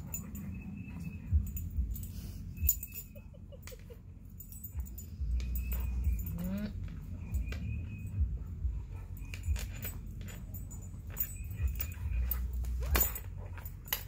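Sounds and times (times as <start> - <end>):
harness clip jingling: 0.0 - 14.0.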